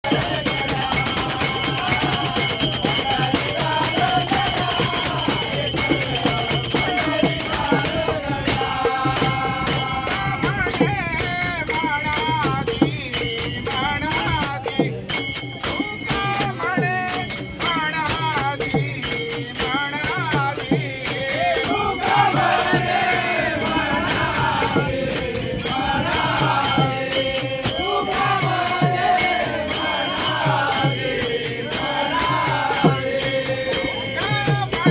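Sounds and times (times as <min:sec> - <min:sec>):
group singing devotional music: 0:00.0 - 0:34.9
jingling hand percussion: 0:00.0 - 0:34.9.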